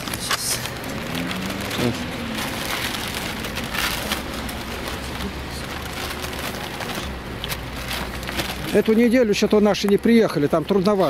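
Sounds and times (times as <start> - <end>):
crackling and rustling of rummaging: 0.0 - 11.0.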